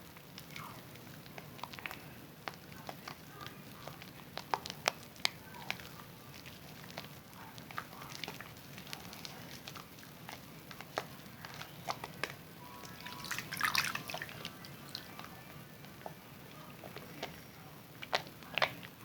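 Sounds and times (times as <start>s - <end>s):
soap lather crackling and squelching: 0.0s - 19.0s.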